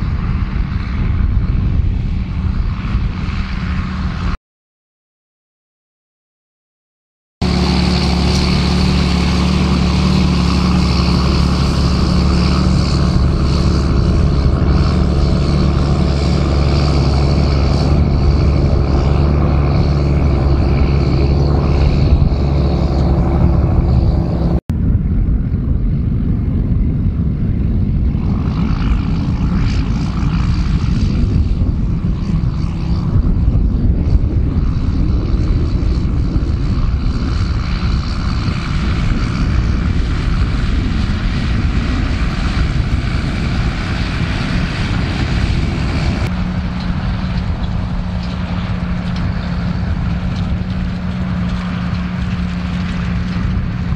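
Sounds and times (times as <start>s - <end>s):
rushing noise: 7.4s - 53.9s
tractor diesel engine running: 7.4s - 53.9s.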